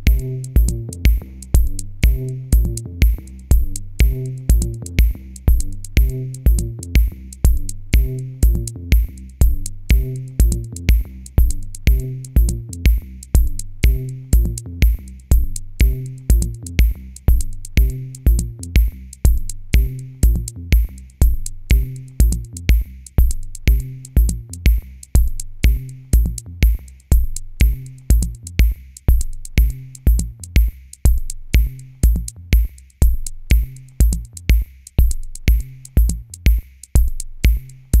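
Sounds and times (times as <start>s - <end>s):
electronic bass line: 0.0s - 36.4s
drum machine beat: 0.0s - 38.0s.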